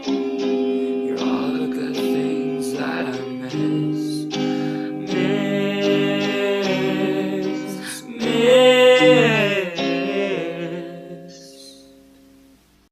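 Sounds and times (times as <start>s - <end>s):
person singing wordless notes: 0.0s - 12.1s
acoustic guitar chords: 0.0s - 12.9s.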